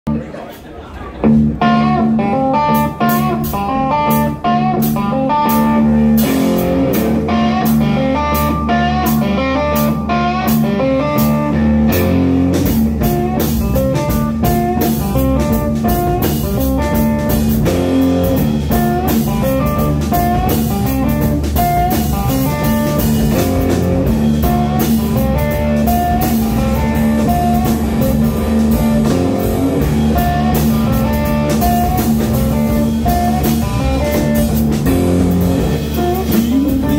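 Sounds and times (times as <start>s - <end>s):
bass guitar: 1.0s - 36.9s
drum kit beat: 1.2s - 36.9s
electric guitars playing riff: 1.2s - 36.9s.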